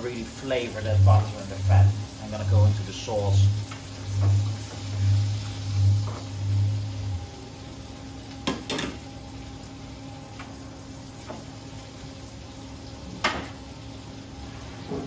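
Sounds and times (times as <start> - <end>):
kitchen hum: 0.0 - 15.0.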